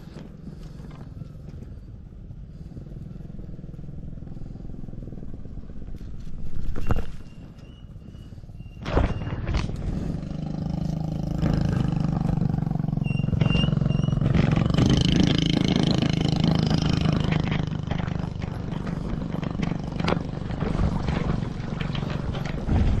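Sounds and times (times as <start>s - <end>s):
small engine humming: 0.0s - 22.7s.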